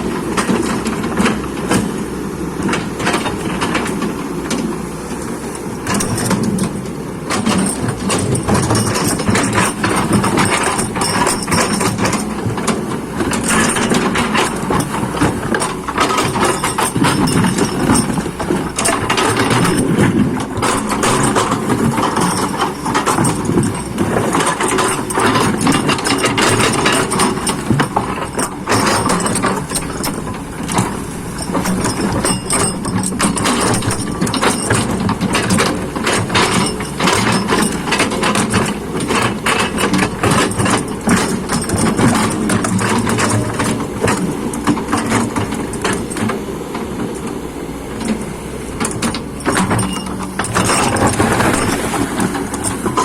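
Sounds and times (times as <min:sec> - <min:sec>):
diesel engine running: 0:00.0 - 0:53.0
metallic clanks: 0:00.1 - 0:53.0.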